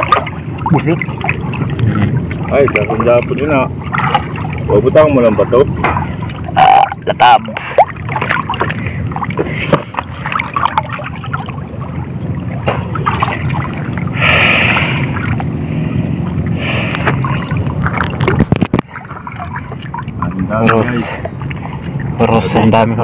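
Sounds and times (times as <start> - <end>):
low rumble: 0.0 - 23.0
seawater sloshing and splashing: 0.0 - 23.0.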